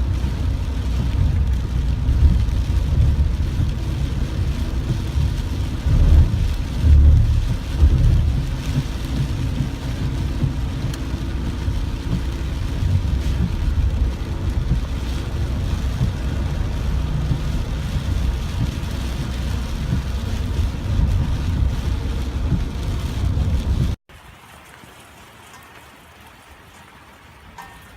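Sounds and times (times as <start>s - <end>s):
low rumble: 0.0s - 24.0s
rain falling: 0.0s - 27.9s.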